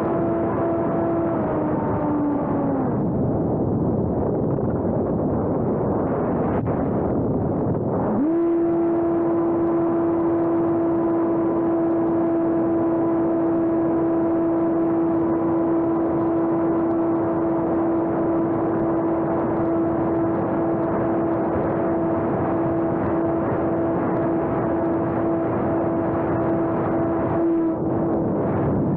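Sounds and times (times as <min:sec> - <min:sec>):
electric motor and propeller whine: 0:00.0 - 0:28.9.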